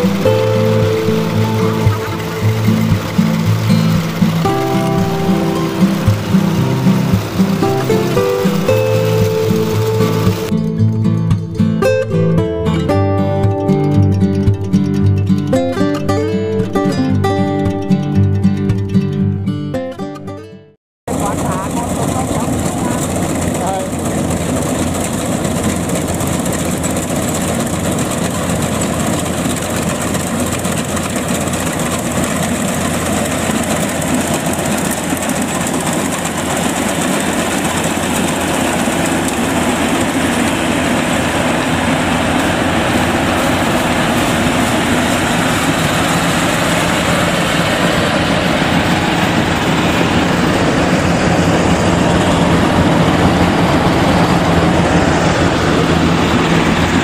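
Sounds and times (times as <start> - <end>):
combine harvester running: 0.0 - 20.3, 21.1 - 57.0.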